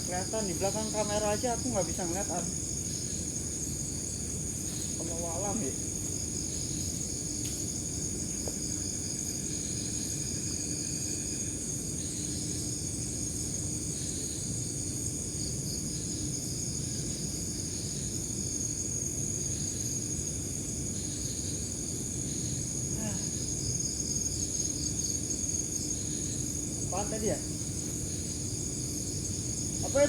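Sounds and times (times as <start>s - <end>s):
night insects droning: 0.0s - 30.0s
pulsing insect trill: 0.0s - 30.0s.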